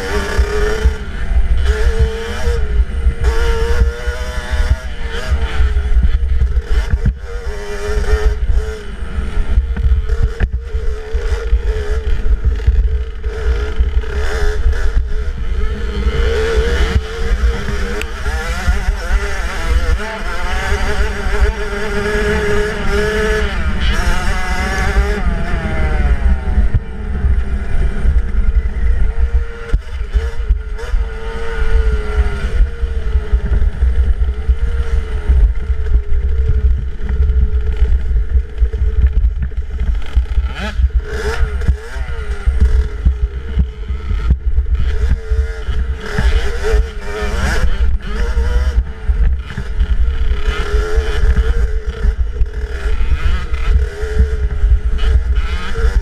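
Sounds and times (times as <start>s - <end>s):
dirt bike engine revving: 0.0s - 56.0s
wind rumble on microphone: 0.0s - 56.0s.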